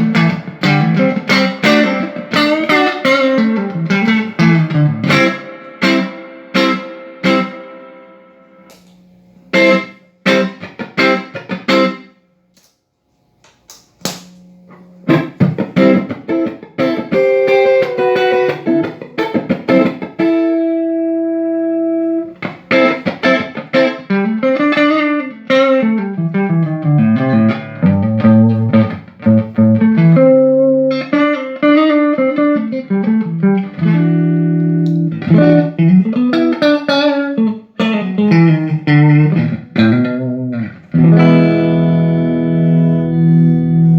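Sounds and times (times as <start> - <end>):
electric guitar chords and lines: 0.0 - 12.2, 14.3 - 43.9.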